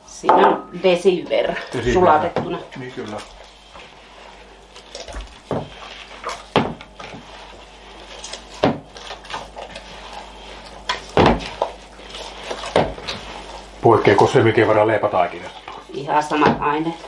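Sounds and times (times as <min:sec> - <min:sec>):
hands kneading dough: 0:00.8 - 0:17.0.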